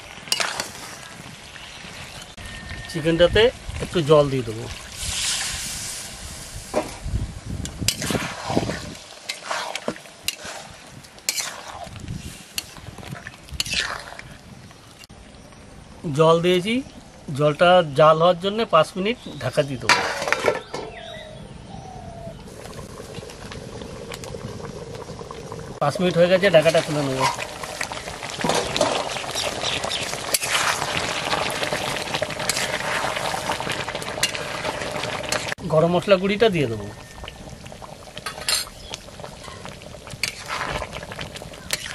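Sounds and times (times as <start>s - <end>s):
curry sizzling: 0.0s - 20.9s, 22.4s - 41.9s.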